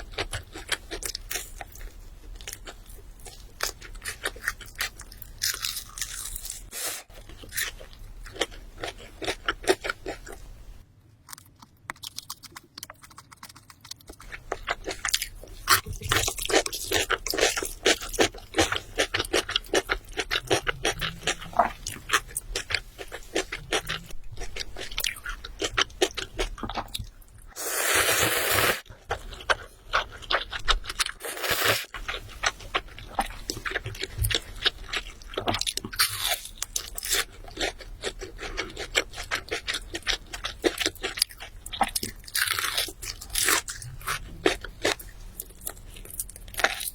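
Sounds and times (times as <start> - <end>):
crunching and chewing fried chicken: 0.0 - 27.6, 28.8 - 46.9.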